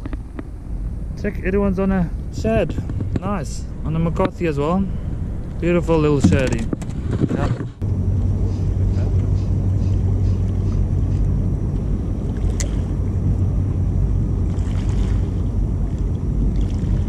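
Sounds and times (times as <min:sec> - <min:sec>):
outboard motor running: 0:00.0 - 0:17.0
water and wind noise: 0:00.0 - 0:17.0.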